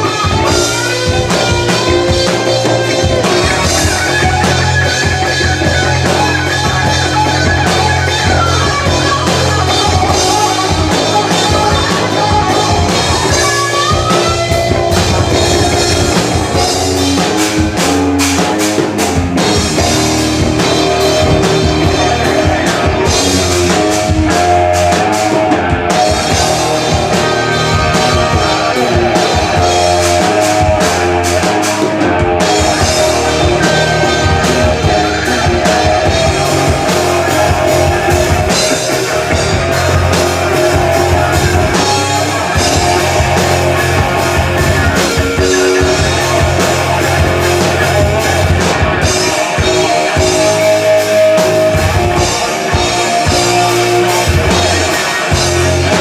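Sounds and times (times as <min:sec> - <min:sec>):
electric guitar lead bending: 0:00.0 - 0:56.0
live rock band playing: 0:00.0 - 0:56.0.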